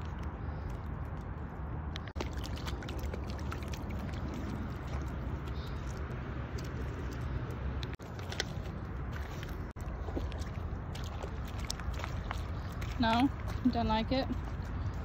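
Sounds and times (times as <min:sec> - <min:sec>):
footsteps on wet pebbles: 0:00.0 - 0:15.0.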